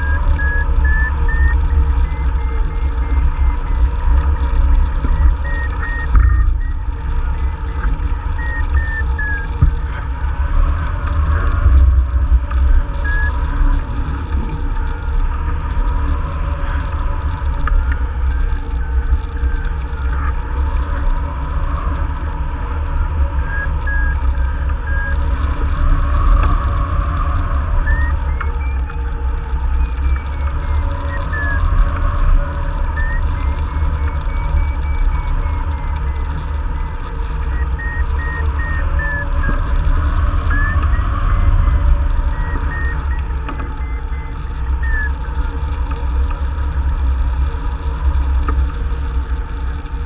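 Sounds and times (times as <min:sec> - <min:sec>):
electronic beeps: 0:00.0 - 0:47.2.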